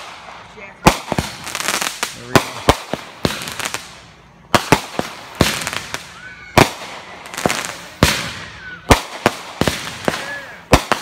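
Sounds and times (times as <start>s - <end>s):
firework bangs: 0.0s - 11.0s
firework crackling: 0.0s - 11.0s.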